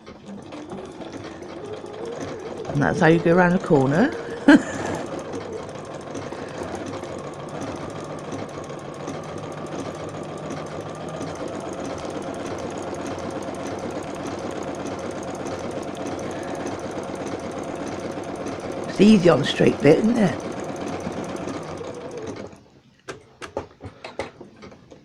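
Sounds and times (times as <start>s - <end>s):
sewing machine running: 0.0s - 22.7s.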